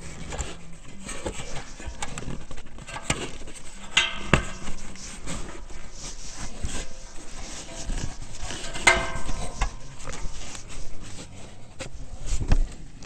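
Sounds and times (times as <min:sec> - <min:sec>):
hands handling plastic parts: 0:00.0 - 0:13.0.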